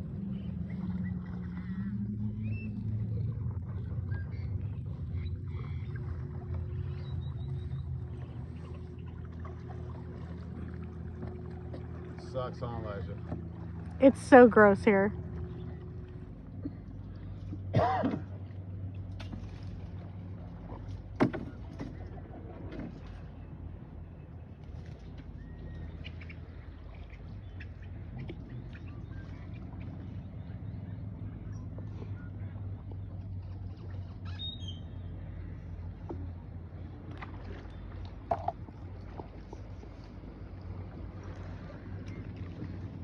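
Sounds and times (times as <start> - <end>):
boat motor running: 0.0 - 43.0.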